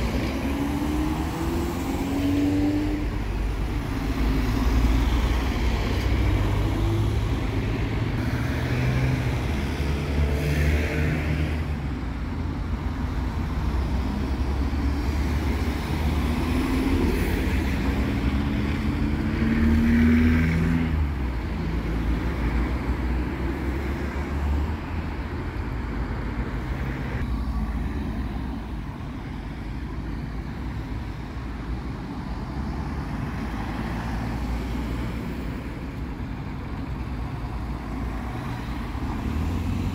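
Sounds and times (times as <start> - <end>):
traffic driving past: 0.0 - 39.9.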